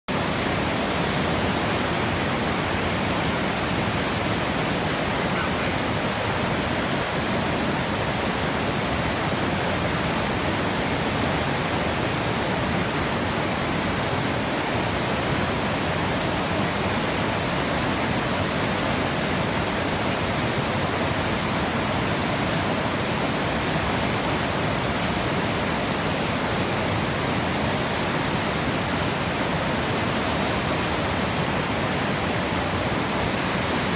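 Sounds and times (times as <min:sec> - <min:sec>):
rushing water: 0:00.1 - 0:33.9.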